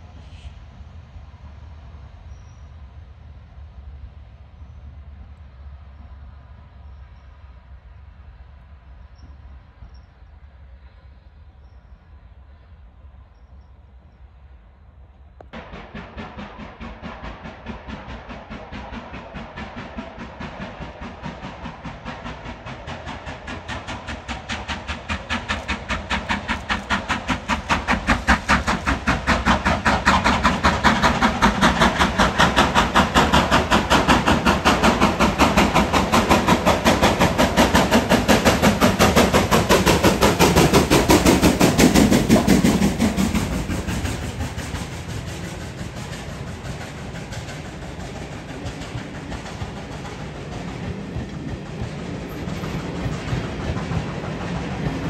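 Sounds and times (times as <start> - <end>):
steam locomotive exhaust beats: 0.0 - 55.0
train running on rails: 0.0 - 55.0.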